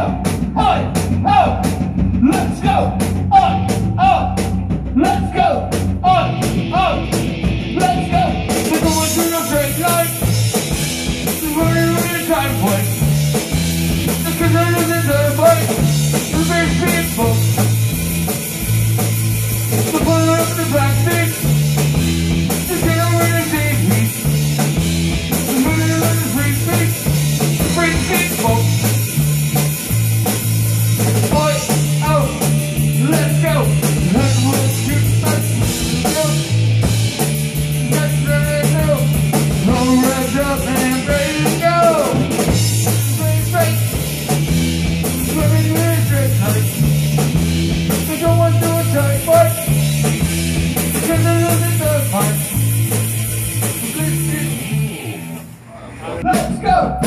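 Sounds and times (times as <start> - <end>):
low bass line: 0.0 - 55.5
drum kit playing: 0.0 - 55.6, 56.2 - 57.0
electric guitar: 6.3 - 55.7.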